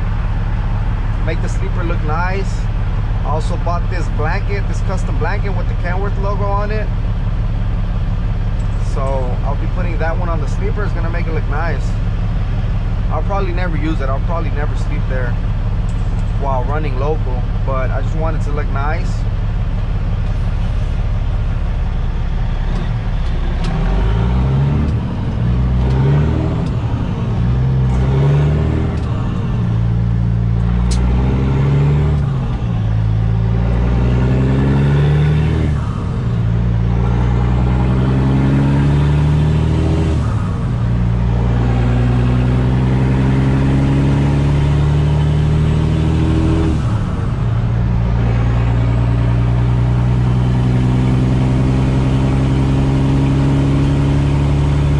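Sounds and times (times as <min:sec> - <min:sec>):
diesel truck engine accelerating: 0:00.0 - 0:54.9.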